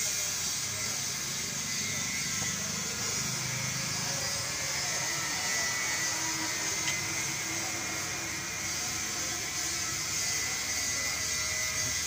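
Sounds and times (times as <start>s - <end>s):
faint voices: 0.0s - 12.0s
machine hum and hiss: 0.0s - 12.0s.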